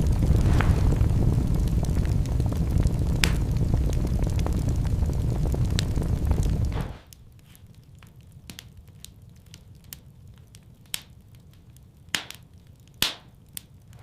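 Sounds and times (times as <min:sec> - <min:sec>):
sharp fire pops: 0:00.0 - 0:11.3, 0:12.1 - 0:14.0
wood fire crackling: 0:00.0 - 0:14.0.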